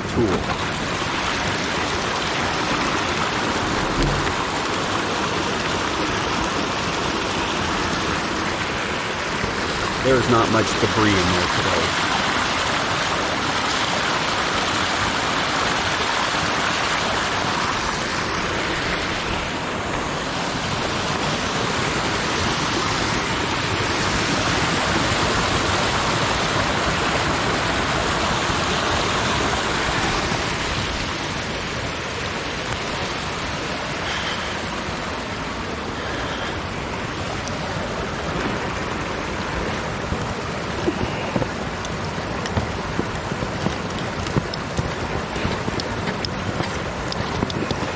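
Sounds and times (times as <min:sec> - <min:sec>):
running water rushing: 0:00.0 - 0:47.9.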